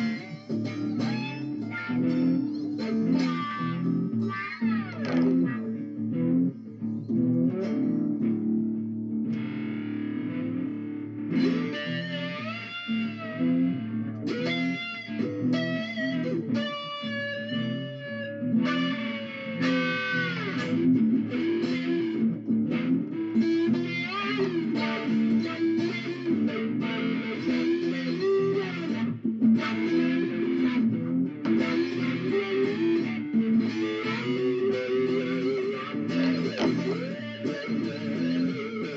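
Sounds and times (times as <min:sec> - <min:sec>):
electric guitar music: 0:00.0 - 0:38.9.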